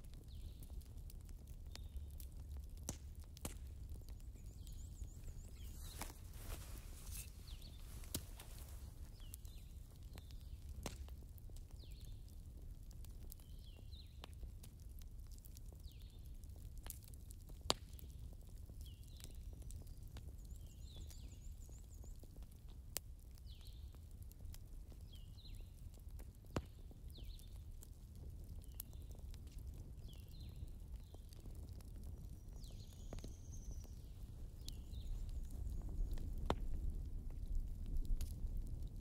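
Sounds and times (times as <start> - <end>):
fire crackling: 0.0 - 39.0.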